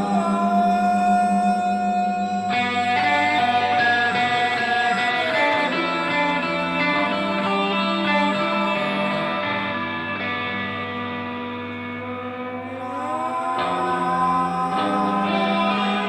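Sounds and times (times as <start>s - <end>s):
held tone gliding down: 0.0s - 16.0s
low drone: 0.0s - 16.0s.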